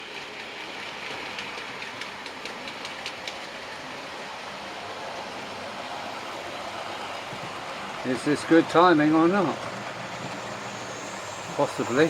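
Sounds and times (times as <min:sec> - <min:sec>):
wheels clicking over rail joints: 0:00.0 - 0:03.8, 0:05.1 - 0:12.0
model train rolling on track: 0:00.0 - 0:12.0.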